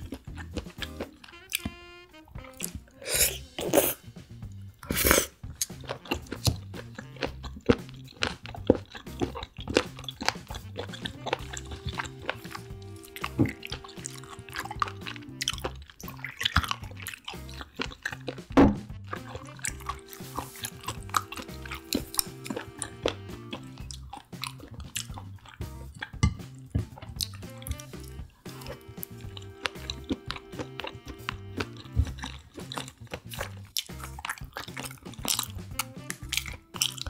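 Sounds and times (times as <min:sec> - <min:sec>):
chewing seafood with wet clicks: 0:00.0 - 0:02.9, 0:04.8 - 0:37.0
soft background music: 0:00.0 - 0:37.0.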